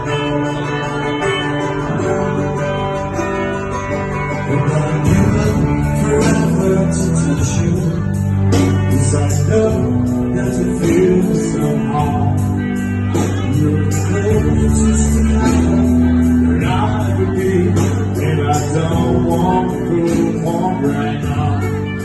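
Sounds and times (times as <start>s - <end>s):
bass line: 0.0s - 22.0s
guitar: 0.0s - 22.0s
person singing: 4.0s - 22.0s.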